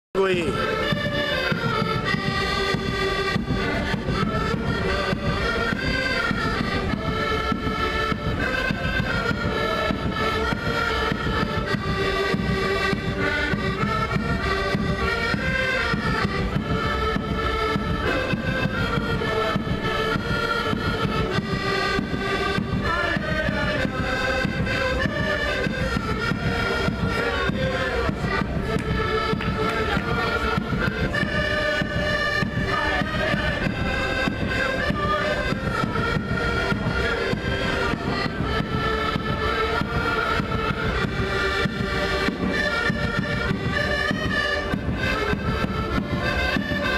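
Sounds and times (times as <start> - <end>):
accordions playing: 0.2 - 46.9.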